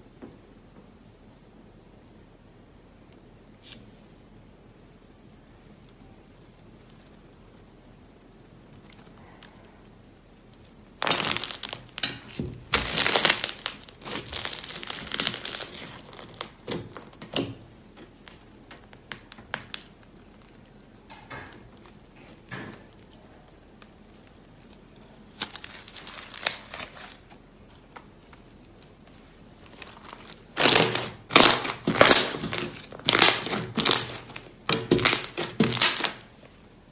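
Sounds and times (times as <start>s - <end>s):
slime crackling and crinkling: 4.8s - 36.9s.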